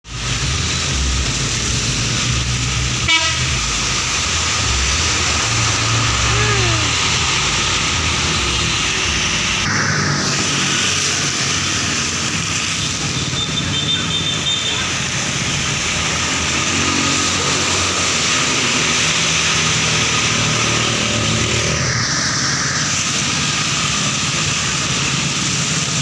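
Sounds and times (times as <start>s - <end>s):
bus diesel engine running: 0.0s - 26.0s
road noise: 0.0s - 26.0s.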